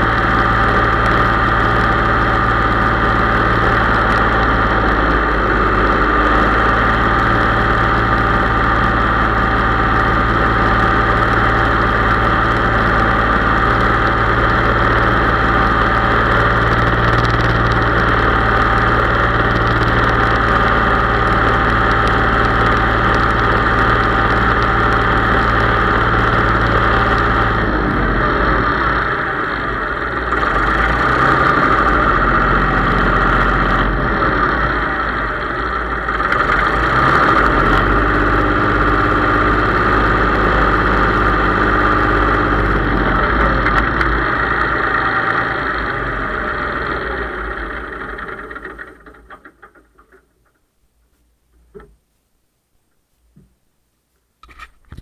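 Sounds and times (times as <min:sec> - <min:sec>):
tractor diesel engine running: 0:00.0 - 0:50.6.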